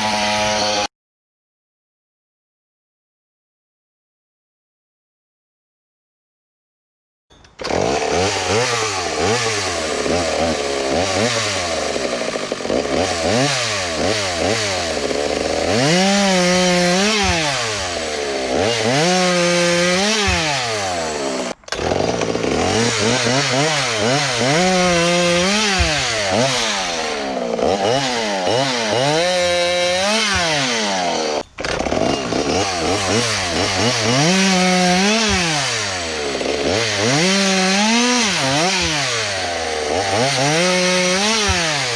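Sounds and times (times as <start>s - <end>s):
chainsaw revving through wood: 0.0s - 0.9s, 7.6s - 41.9s.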